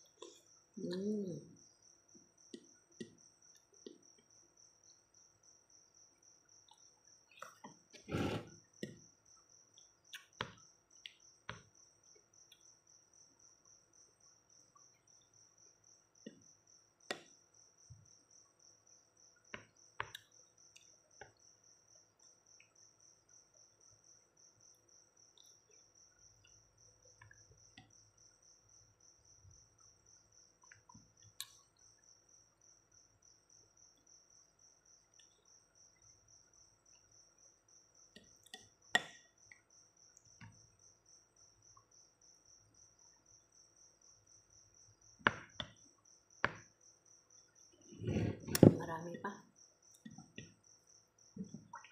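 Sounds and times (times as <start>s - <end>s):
cricket chirping: 0.0s - 51.9s.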